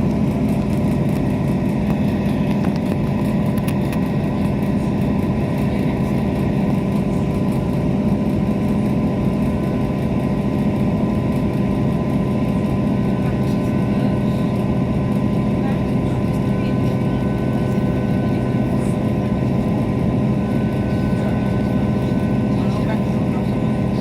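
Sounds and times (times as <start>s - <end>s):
diesel engine drone: 0.0s - 24.0s
train wheel rumble: 0.0s - 24.0s.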